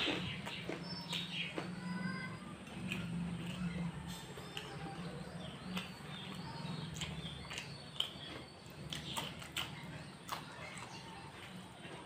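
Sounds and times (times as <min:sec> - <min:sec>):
person chewing crunchy snacks: 0:00.0 - 0:01.8, 0:02.6 - 0:05.0, 0:05.6 - 0:12.0.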